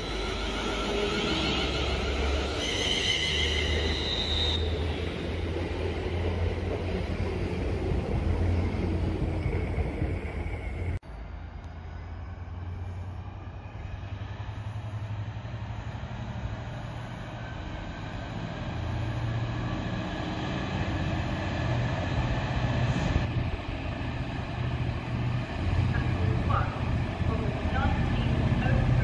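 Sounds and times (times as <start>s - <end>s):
train rumbling through station: 0.0s - 29.0s.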